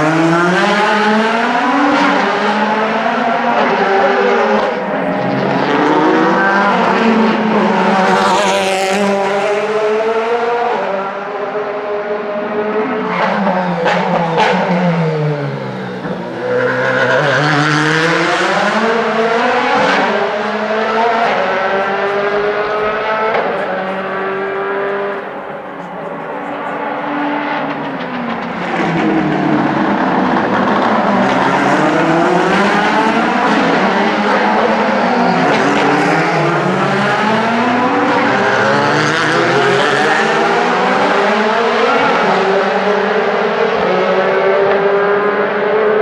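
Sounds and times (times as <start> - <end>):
race car engines passing: 0.0 - 46.0.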